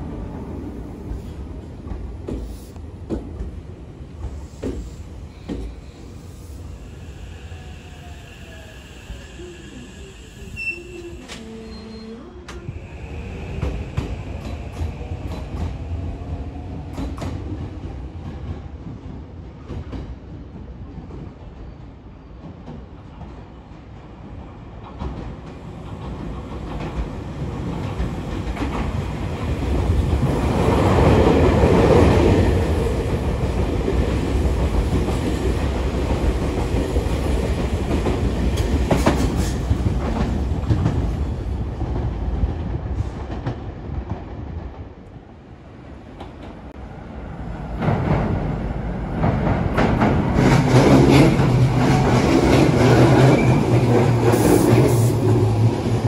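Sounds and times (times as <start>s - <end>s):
train approaching: 0.0s - 56.0s.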